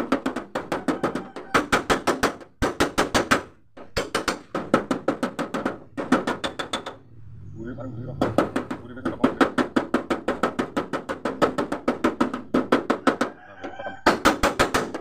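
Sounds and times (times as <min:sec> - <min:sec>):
hammer tapping steel door panel: 0:00.0 - 0:07.0, 0:08.2 - 0:13.3, 0:14.0 - 0:15.0.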